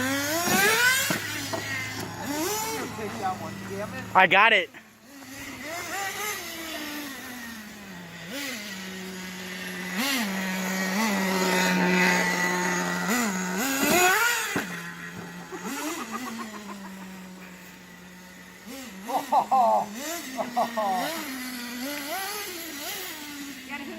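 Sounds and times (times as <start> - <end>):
engine throttle blips: 0.0 - 23.9
small engine idling: 0.0 - 23.9.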